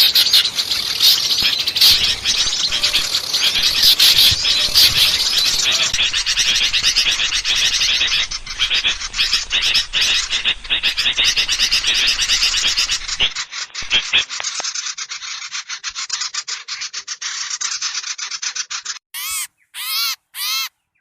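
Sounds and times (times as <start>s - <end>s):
chorus of small birds: 0.0s - 20.7s.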